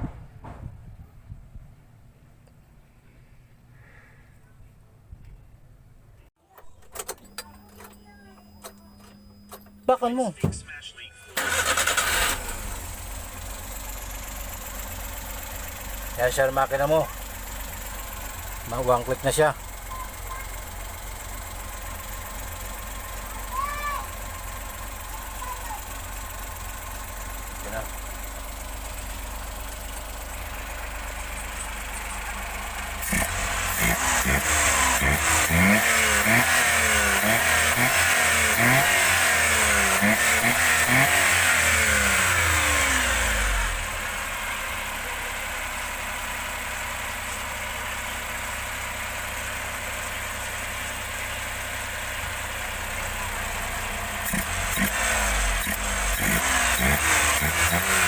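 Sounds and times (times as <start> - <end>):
car engine idling and revving: 7.0 - 58.0.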